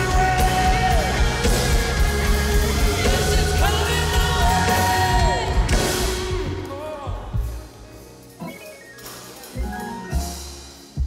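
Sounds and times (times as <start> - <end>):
worship band music: 0.0 - 11.0.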